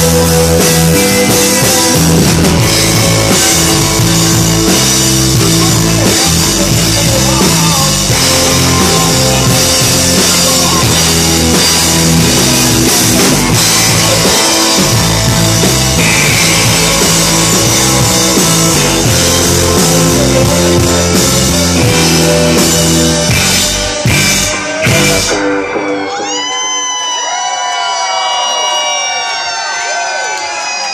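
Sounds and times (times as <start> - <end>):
live rock band playing: 0.0 - 27.7.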